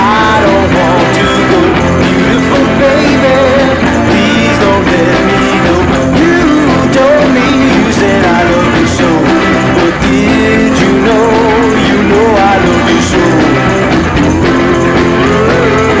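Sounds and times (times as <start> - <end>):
rock song with band: 0.0 - 16.0.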